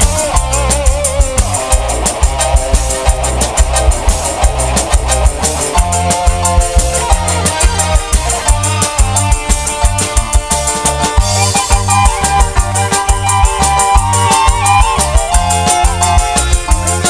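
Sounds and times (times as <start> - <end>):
driving drum beat: 0.0 - 17.0
heavy bass: 0.0 - 17.0
wavering melody line: 0.0 - 17.0.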